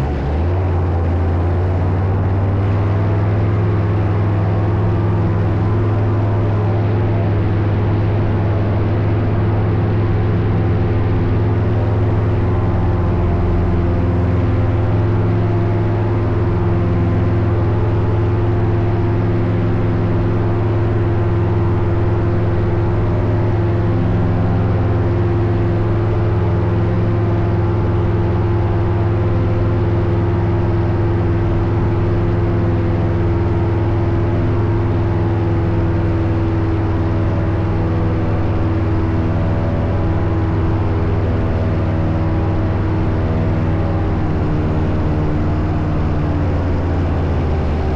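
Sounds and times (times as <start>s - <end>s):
paramotor engine running: 0.0s - 47.9s.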